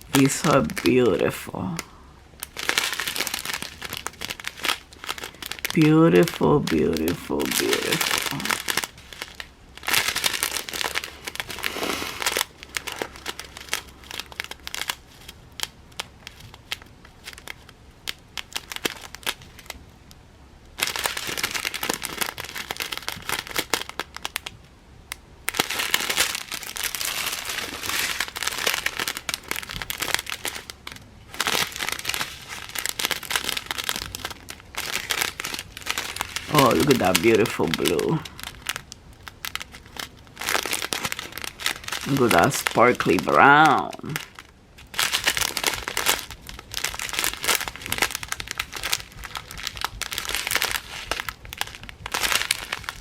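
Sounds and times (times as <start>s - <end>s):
plastic bags crinkling: 0.0s - 19.8s, 20.7s - 24.6s, 25.5s - 53.0s.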